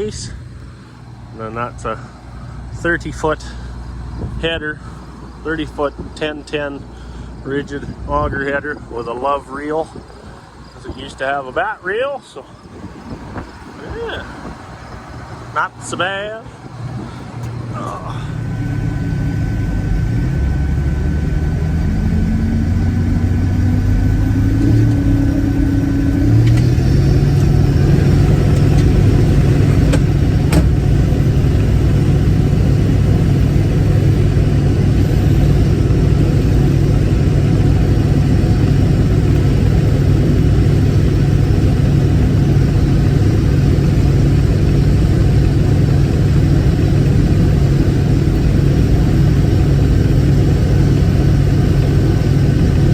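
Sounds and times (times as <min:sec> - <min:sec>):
diesel engine throttling up: 0:00.0 - 0:52.9.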